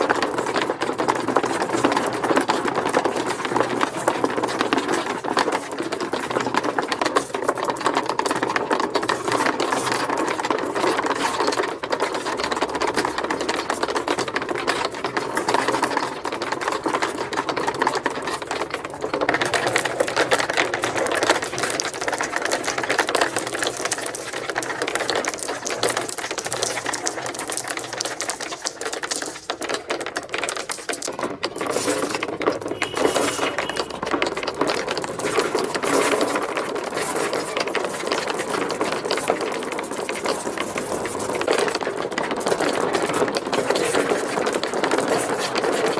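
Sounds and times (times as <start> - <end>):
marbles rattling down plastic ramps: 0.0 - 45.9.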